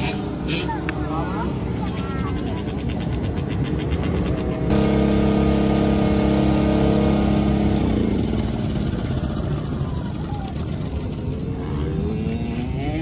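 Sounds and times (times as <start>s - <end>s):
low outdoor rumble: 0.0s - 13.0s
motorcycle engine running: 1.6s - 13.0s.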